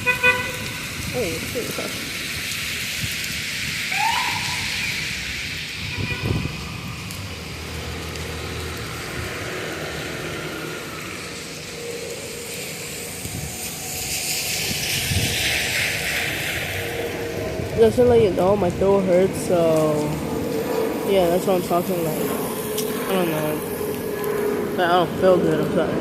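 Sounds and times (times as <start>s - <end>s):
passing vehicles: 0.0s - 26.0s
vehicle passing with rising hiss: 0.7s - 26.0s.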